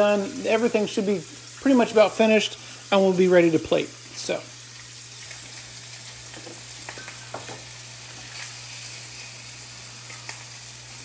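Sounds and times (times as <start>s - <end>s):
meat sizzling on grill pan: 0.0s - 11.0s.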